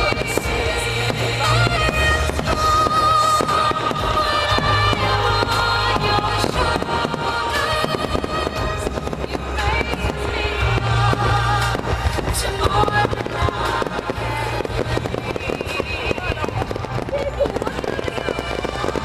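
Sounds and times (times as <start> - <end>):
fireworks bursting and crackling: 0.0 - 19.0
music with low pulse: 0.0 - 19.0.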